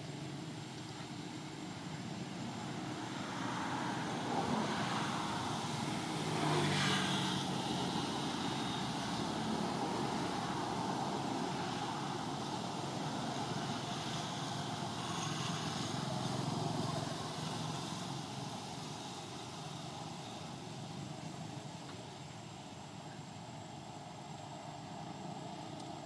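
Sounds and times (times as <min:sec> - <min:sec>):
outdoor hum and hiss: 0:00.0 - 0:26.0.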